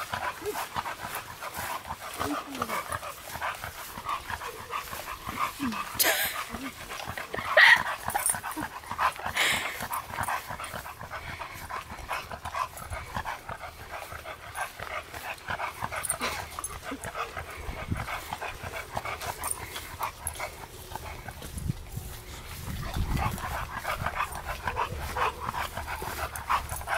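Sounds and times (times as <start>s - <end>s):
dogs moving about: 0.0s - 26.9s.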